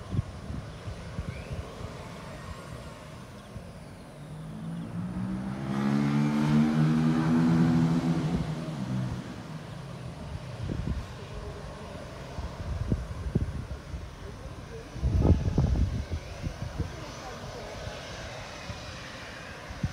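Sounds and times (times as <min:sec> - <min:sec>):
engine noise: 0:00.0 - 0:19.9.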